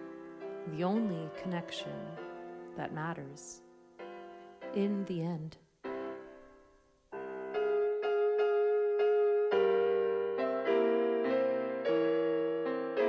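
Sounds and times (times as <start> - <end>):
keyboard playing gentle chords: 0.0 - 13.0.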